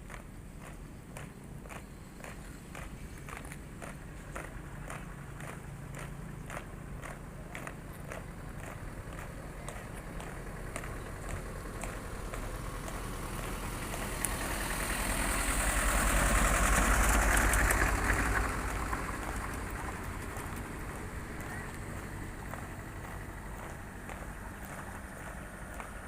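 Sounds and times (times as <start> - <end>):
vehicle engine passing by: 2.4 - 26.0.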